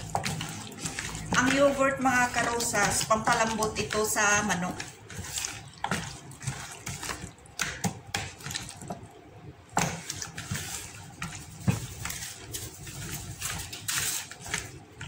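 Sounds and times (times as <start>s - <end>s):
wet squelching of marinated chicken: 0.0s - 15.0s.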